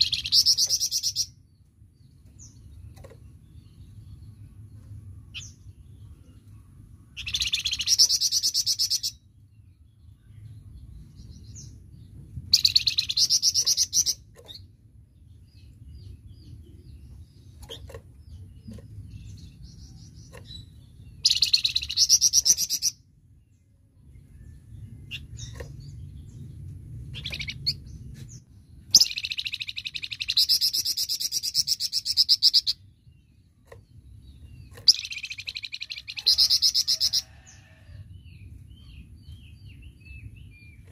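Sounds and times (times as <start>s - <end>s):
low steady rumble: 0.0s - 40.9s
songbird singing: 0.0s - 40.9s.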